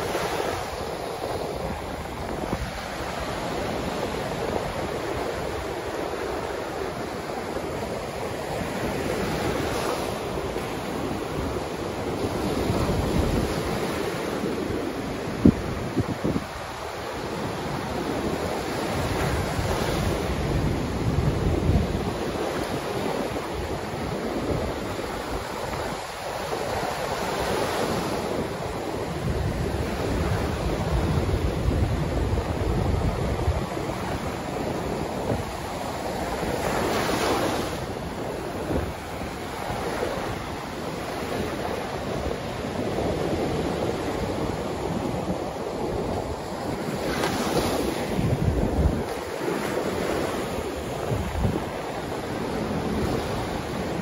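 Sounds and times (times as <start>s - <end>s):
surf breaking on beach: 0.0s - 54.0s
wind rumbling on microphone: 0.0s - 54.0s.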